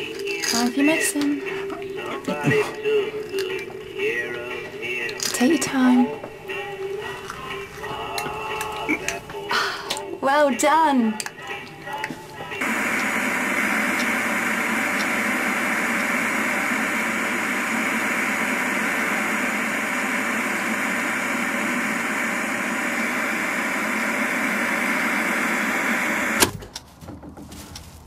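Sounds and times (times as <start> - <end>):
television static hiss: 0.0 - 26.6.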